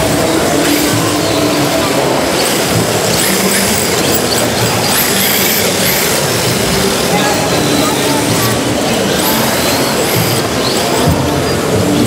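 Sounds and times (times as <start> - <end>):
exhibition hall crowd din: 0.0 - 12.0
rc cars high-pitched whine: 0.0 - 12.0.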